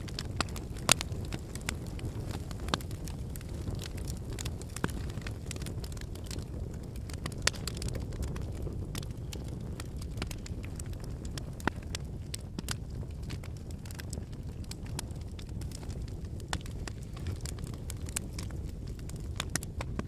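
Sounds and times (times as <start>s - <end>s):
burning logs crackling and popping: 0.0s - 20.0s
campfire flames rumbling: 0.0s - 20.0s.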